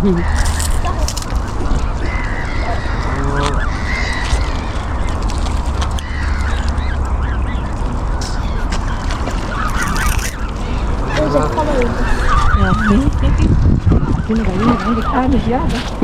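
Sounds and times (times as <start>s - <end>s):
steady low rumble: 0.0s - 14.6s
ducks and geese calling: 0.0s - 16.0s.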